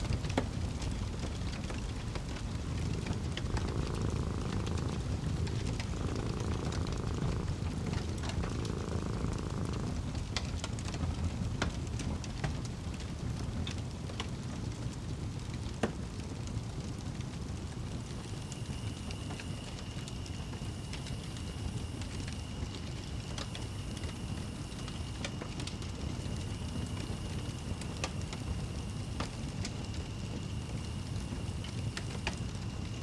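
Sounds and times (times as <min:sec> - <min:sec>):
fireplace fire crackling: 0:00.0 - 0:33.0.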